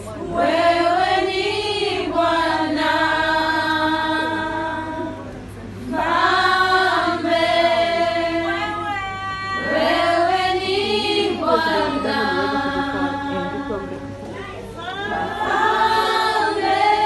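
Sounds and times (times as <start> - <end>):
women singing unaccompanied: 0.0 - 5.3, 5.9 - 13.7, 14.7 - 17.0.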